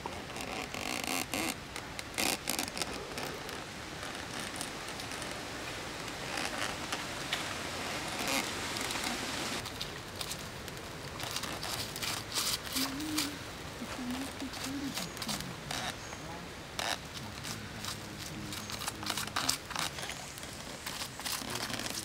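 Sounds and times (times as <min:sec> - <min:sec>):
coals crackling and popping: 0:00.0 - 0:22.0.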